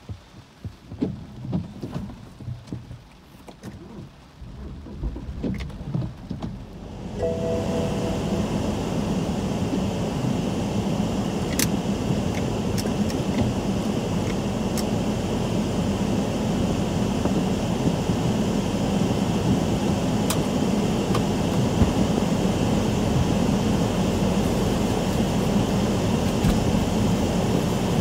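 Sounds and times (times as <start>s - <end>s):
heavy rain on a car: 0.0s - 6.9s, 9.3s - 28.0s.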